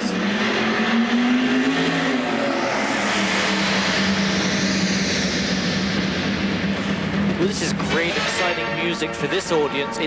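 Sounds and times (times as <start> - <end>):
race car engine drone over loudspeakers: 0.0 - 10.0.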